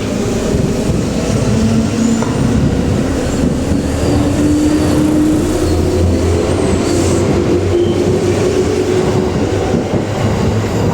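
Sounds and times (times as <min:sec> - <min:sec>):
train wheels rumbling: 0:00.0 - 0:10.9.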